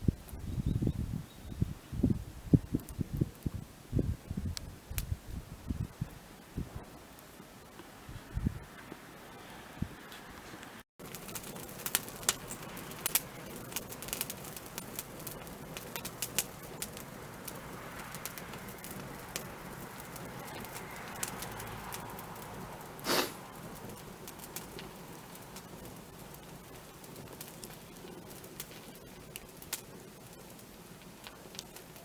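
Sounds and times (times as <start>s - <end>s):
wood fire crackling: 1.6s - 32.0s.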